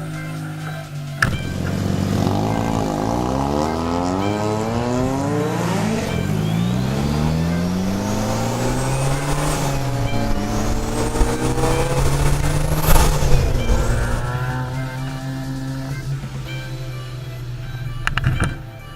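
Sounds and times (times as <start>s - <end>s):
turbo whistle: 0.0s - 16.6s
rotary engine revving: 0.0s - 18.6s.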